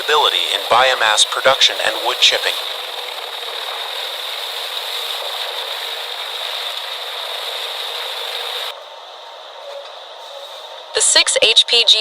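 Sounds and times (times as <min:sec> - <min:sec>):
machinery rattling with high whine: 0:00.0 - 0:12.0.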